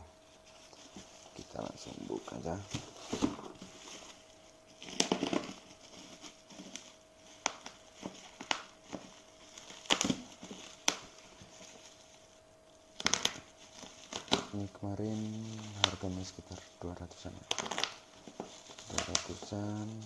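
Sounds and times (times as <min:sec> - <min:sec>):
plastic wrapping crinkling and snapping: 0:00.2 - 0:20.0.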